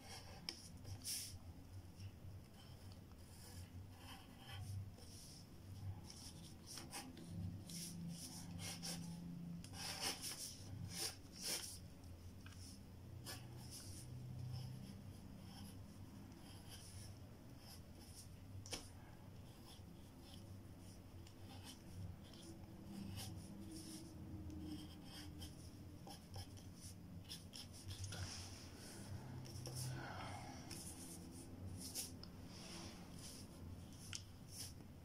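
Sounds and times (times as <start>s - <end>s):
pencil scratching on paper: 0.0s - 1.4s, 2.4s - 11.8s, 12.4s - 29.9s, 30.6s - 34.8s.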